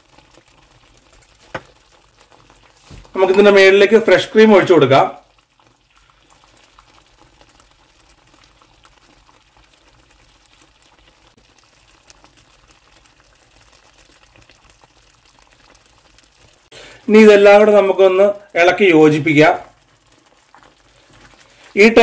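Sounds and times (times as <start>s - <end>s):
gravy bubbling and popping: 0.0s - 22.0s.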